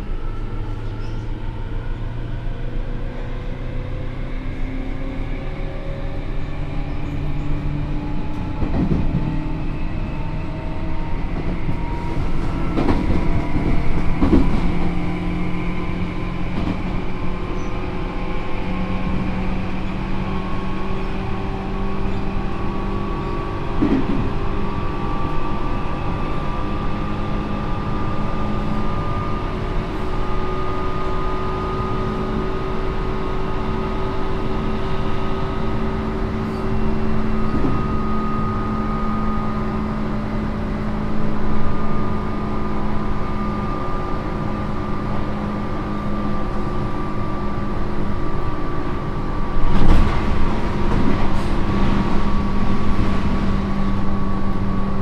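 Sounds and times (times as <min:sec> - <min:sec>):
rail noise: 0:00.0 - 0:55.0.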